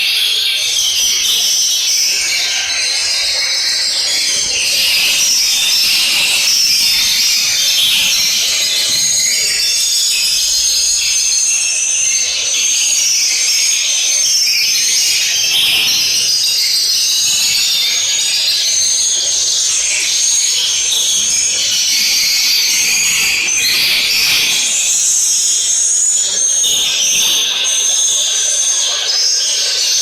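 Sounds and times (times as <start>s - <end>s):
swiftlets chirping and twittering: 0.0s - 30.0s.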